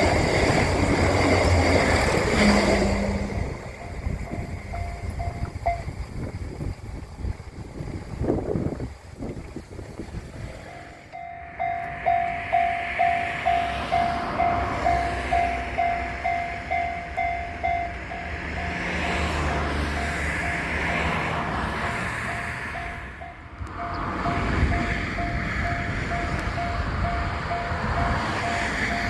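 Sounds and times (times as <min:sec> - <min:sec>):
level crossing warning bell: 0:00.0 - 0:06.1, 0:10.5 - 0:29.0
train passing rumble: 0:00.0 - 0:29.0.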